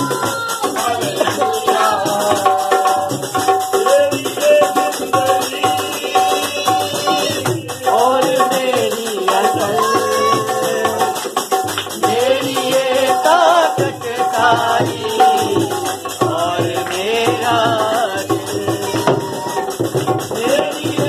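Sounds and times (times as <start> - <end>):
hand drum quick rhythm: 0.0 - 21.0.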